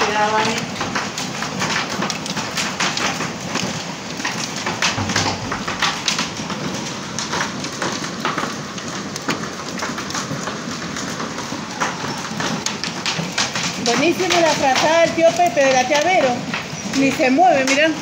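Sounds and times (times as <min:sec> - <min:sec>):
hail clattering on hard surfaces: 0:00.0 - 0:18.0.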